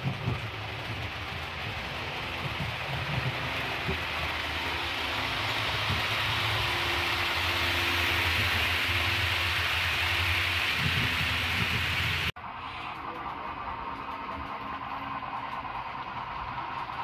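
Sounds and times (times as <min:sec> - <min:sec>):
model train running hum: 0:00.0 - 0:17.0.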